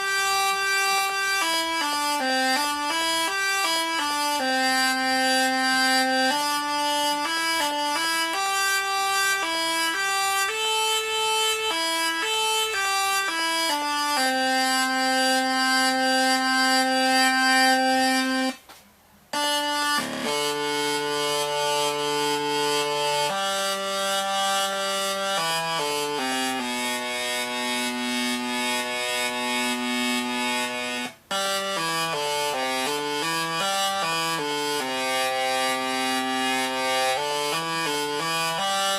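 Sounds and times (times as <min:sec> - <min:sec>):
buzzy synthesizer tune: 0:00.0 - 0:18.6, 0:19.4 - 0:38.9.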